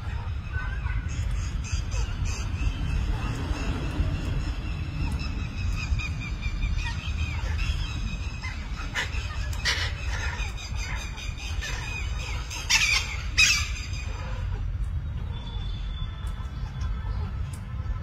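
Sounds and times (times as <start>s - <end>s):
parakeets chirping and chattering: 0.2s - 15.6s.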